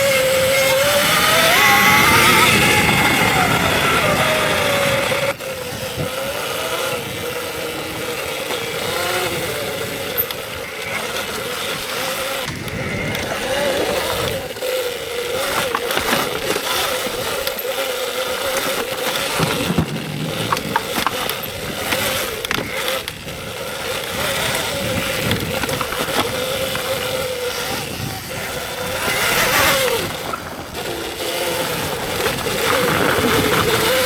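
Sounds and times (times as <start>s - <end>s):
electric motor whine: 0.0s - 34.0s
tyres and wind rushing: 0.0s - 34.0s.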